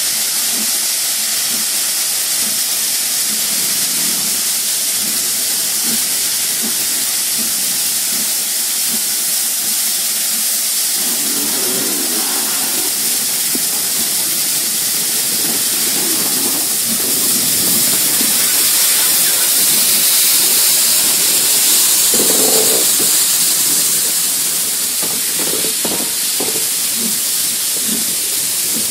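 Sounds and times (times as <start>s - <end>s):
steam hissing: 0.0s - 28.9s
steam locomotive moving: 0.0s - 28.9s.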